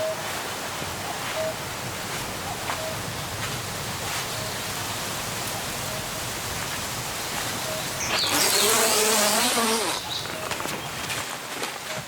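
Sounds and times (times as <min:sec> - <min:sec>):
wind rushing through trees: 0:00.0 - 0:12.0.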